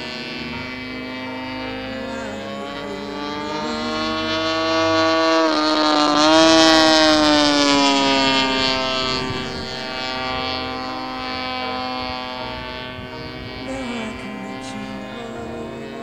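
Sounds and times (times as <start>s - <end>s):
model plane engine droning: 0.0s - 16.0s.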